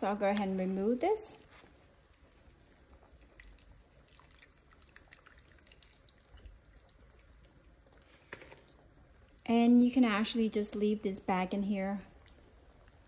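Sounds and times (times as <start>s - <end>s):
broth dripping into pot: 0.0s - 13.0s.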